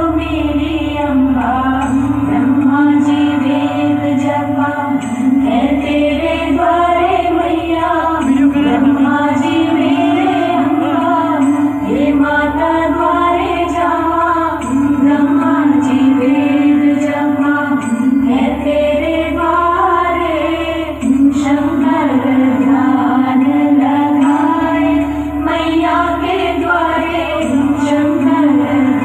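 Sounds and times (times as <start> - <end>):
chorus singing: 0.0 - 29.0
instruments over a low drone: 0.0 - 29.0
woman singing: 0.0 - 29.0.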